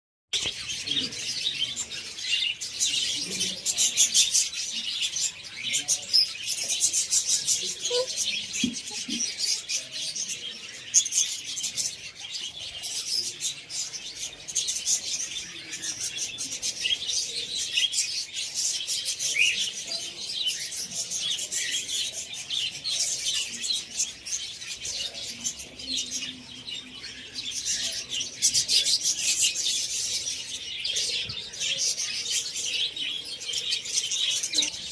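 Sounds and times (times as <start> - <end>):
small birds chirping: 0.3 - 34.9.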